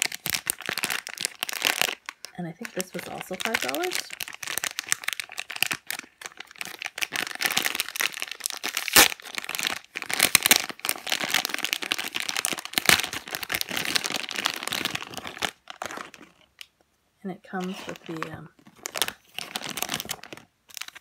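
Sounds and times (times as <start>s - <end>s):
plastic packaging crinkling: 0.0s - 16.8s, 17.5s - 21.0s.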